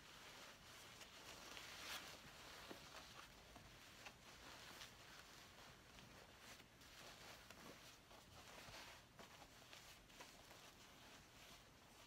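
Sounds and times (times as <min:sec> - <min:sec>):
fabric rustling: 0:00.0 - 0:12.0.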